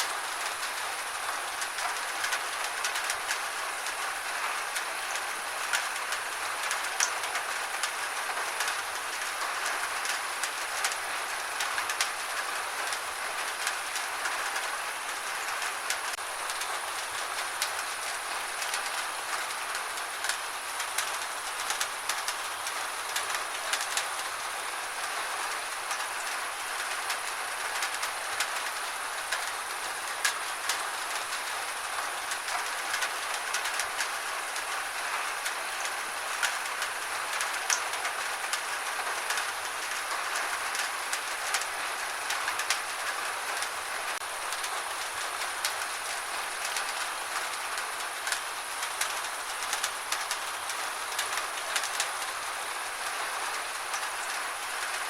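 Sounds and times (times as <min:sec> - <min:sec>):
gentle rain: 0:00.0 - 0:55.0
raindrops tapping a surface: 0:00.0 - 0:55.0.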